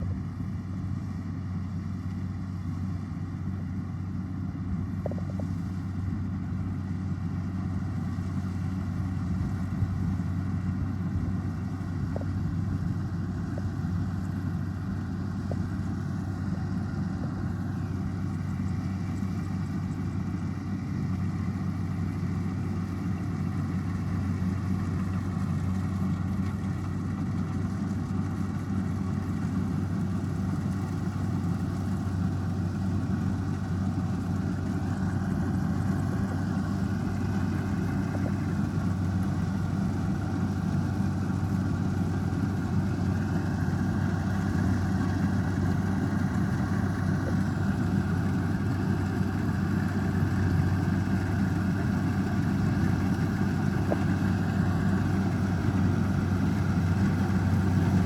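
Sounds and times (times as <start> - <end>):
combine harvester diesel engine: 0.0 - 58.0.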